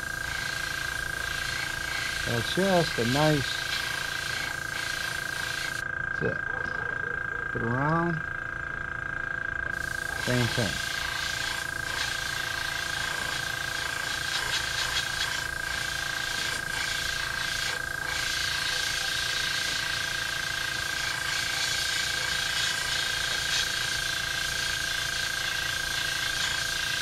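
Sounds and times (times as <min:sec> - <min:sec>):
airbrush hissing: 0:00.0 - 0:05.8, 0:09.7 - 0:27.0
motor whine: 0:00.0 - 0:27.0.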